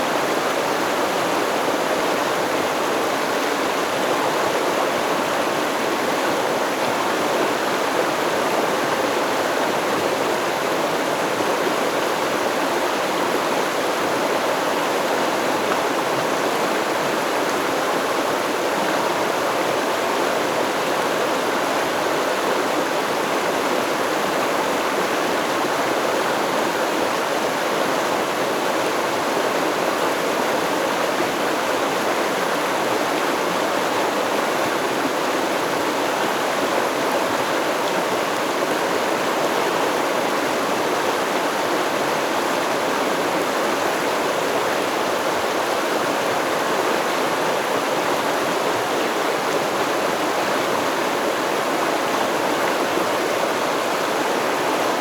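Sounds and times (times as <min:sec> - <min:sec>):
stream water babbling over rocks: 0:00.0 - 0:55.0.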